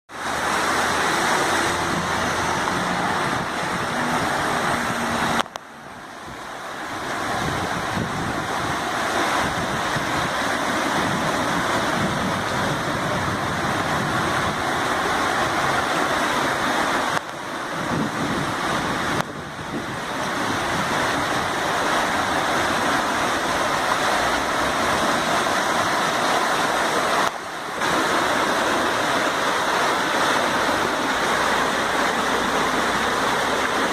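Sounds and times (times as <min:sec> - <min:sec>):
floodwater rushing along street: 0:00.1 - 0:33.9.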